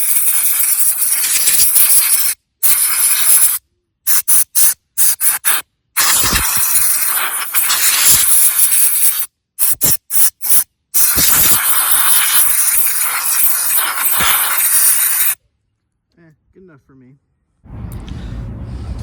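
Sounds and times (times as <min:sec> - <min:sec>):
compressed air blow gun hissing: 0:00.0 - 0:15.4.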